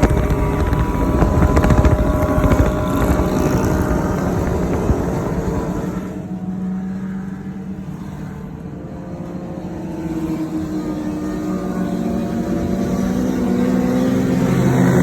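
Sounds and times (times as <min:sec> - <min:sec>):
motorcycle exhausts pulsing: 0:00.0 - 0:15.0.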